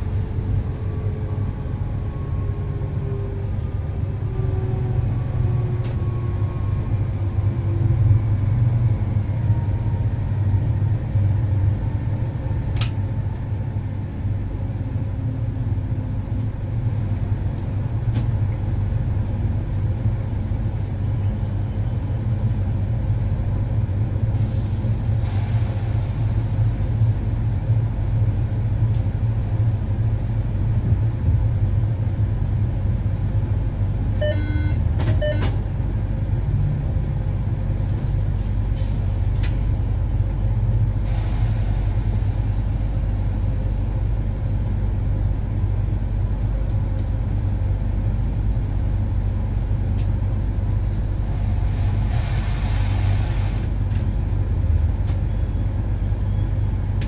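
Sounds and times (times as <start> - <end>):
moving train rumble: 0.0 - 57.0.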